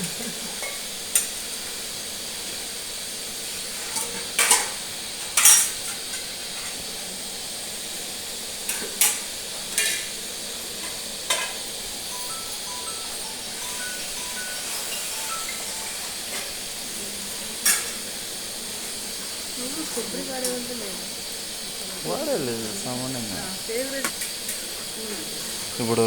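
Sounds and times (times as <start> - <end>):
food sizzling: 0.0 - 26.0.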